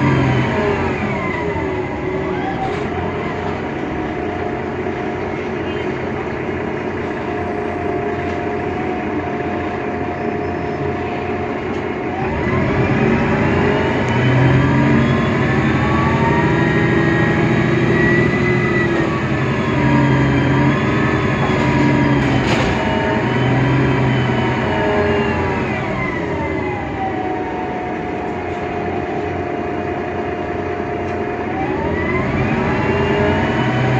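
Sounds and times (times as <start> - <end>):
bus engine drone: 0.0 - 33.9.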